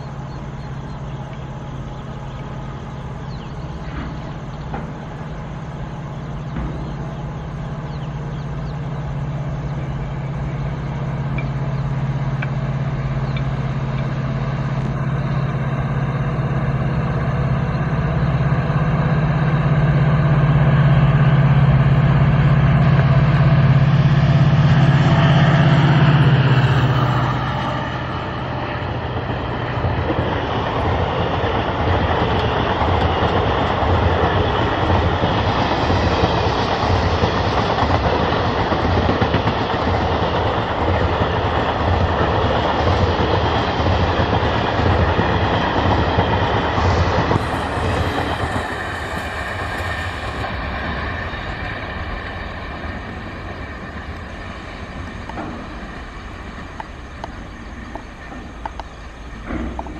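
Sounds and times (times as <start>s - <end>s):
diesel locomotive engine drone: 0.0s - 59.9s
train wheels on rails: 0.0s - 59.9s.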